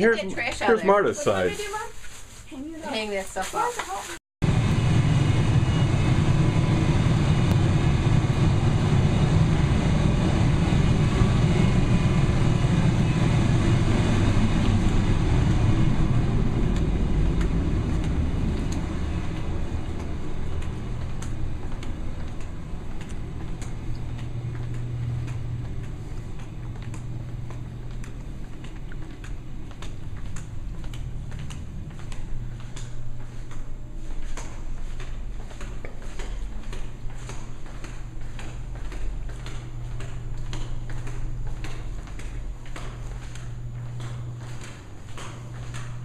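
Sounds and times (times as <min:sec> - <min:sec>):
washers and dryers humming: 0:00.0 - 0:46.0.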